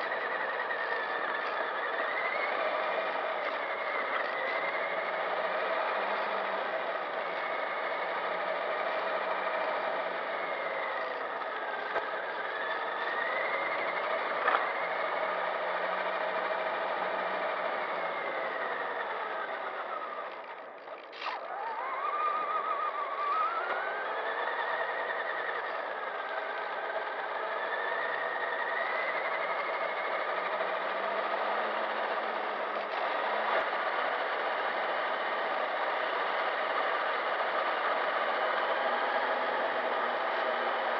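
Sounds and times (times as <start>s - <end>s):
rc truck motor whining: 0.0s - 40.9s.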